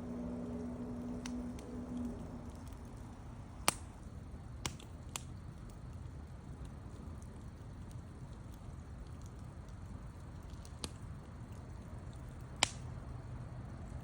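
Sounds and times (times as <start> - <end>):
fire crackling: 0.0 - 14.0
wood fire rumbling: 0.0 - 14.0
sharp pops from fire: 0.1 - 13.4.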